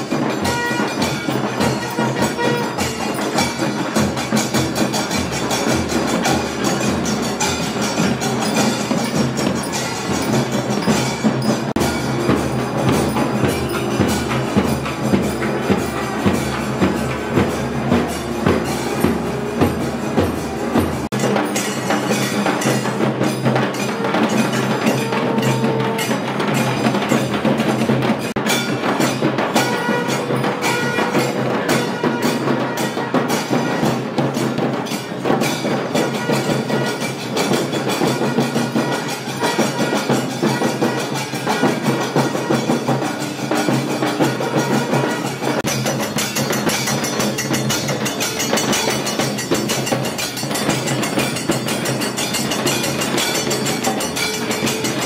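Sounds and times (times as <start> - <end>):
percussion band drumming: 0.0 - 55.0
ringing metallic strokes: 0.0 - 55.0.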